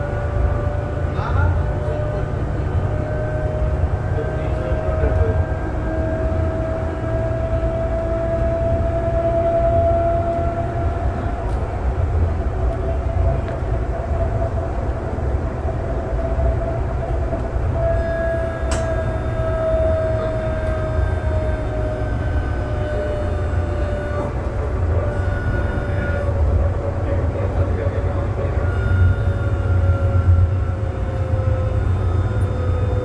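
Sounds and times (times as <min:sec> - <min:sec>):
train whine: 0:00.0 - 0:33.0
wheels rumbling on rails: 0:00.0 - 0:33.0.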